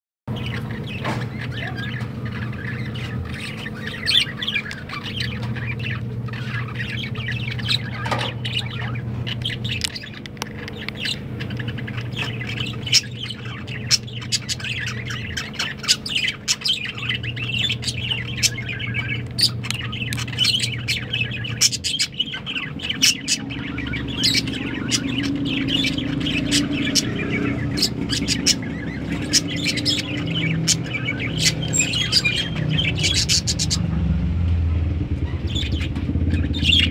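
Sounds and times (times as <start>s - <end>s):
lovebirds squawking and chirping: 0.3s - 34.2s, 35.0s - 36.9s.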